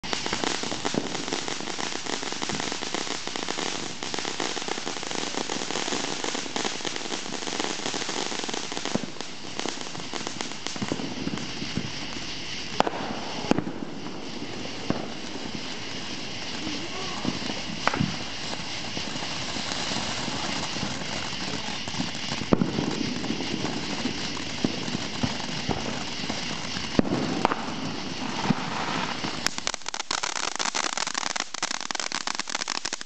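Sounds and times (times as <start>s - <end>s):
firework fountain hissing and crackling: 0.0s - 33.0s
firework pops: 0.0s - 33.0s.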